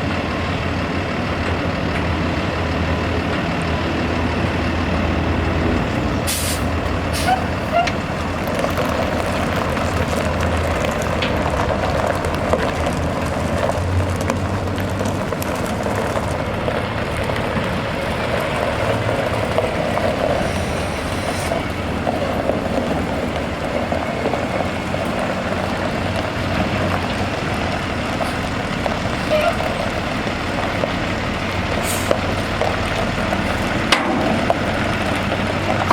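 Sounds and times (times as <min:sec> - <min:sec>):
diesel truck engine running: 0:00.0 - 0:35.9.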